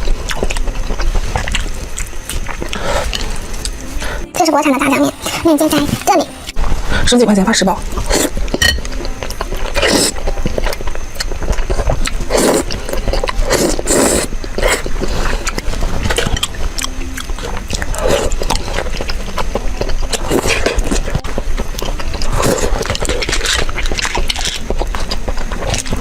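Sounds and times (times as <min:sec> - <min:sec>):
person chewing noodles: 0:00.0 - 0:05.9, 0:07.9 - 0:26.0.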